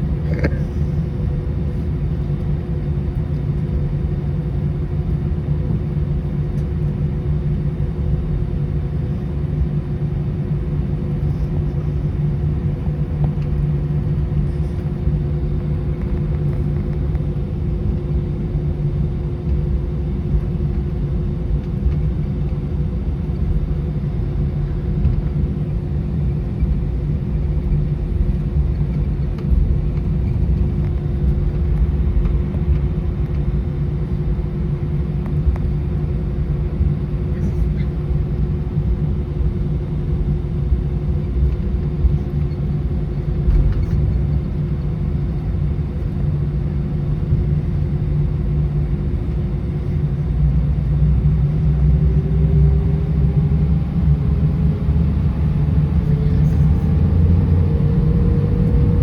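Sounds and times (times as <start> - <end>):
airplane cabin engine hum: 0.0 - 59.0.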